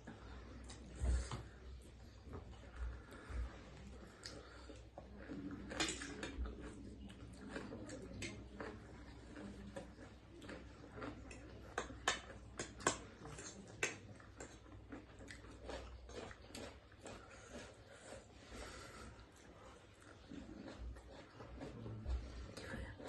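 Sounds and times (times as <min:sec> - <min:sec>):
quiet chewing: 0:00.0 - 0:23.0.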